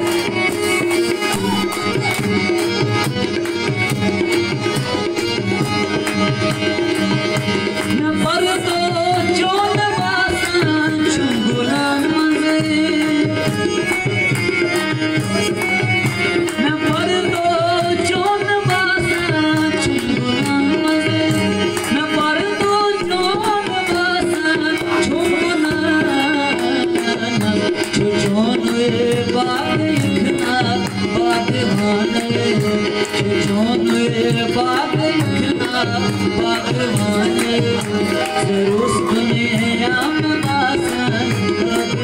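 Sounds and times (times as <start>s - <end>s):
fast drumming: 0.0s - 42.0s.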